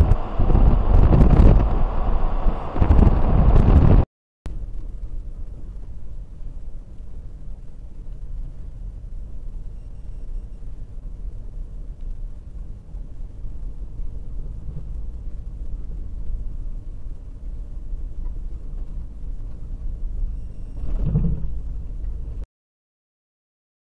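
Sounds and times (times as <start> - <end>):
tyre and road noise: 0.0 - 22.4
vehicle engine rumble: 0.0 - 22.5.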